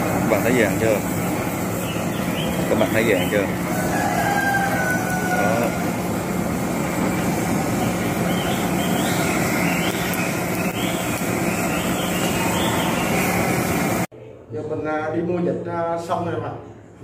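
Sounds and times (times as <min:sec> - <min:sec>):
blowtorch hissing: 0:00.0 - 0:14.1.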